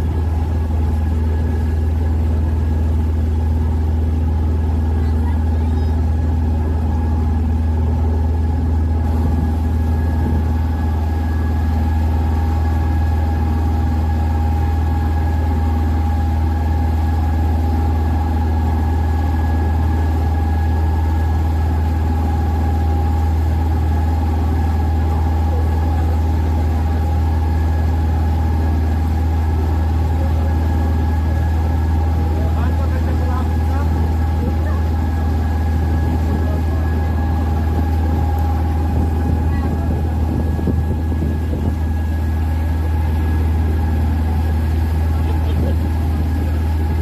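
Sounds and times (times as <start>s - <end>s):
boat engine droning: 0.0s - 47.0s
high engine whine: 0.0s - 47.0s.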